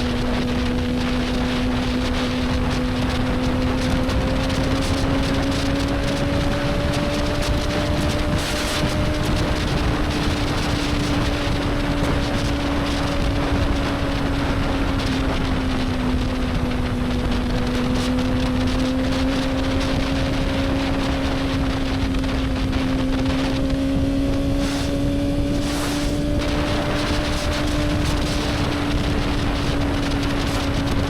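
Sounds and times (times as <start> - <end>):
motorcycle engine cruising: 0.0 - 31.0
wind on microphone: 0.0 - 31.0.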